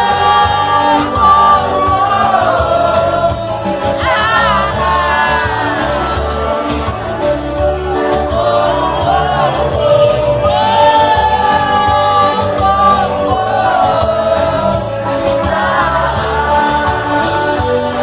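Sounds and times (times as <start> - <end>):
live band music: 0.0 - 18.0
person singing: 0.0 - 18.0.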